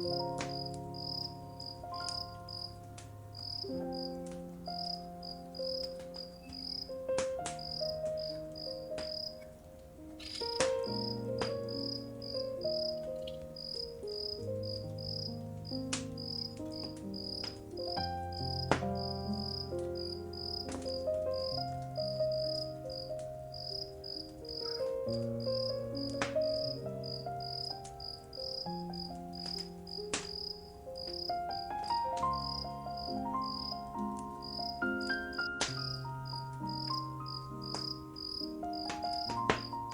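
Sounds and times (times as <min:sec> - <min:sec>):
crickets chirping: 0:00.0 - 0:39.9
soft held music notes: 0:00.0 - 0:39.9
wood fire crackling and popping: 0:00.0 - 0:39.9.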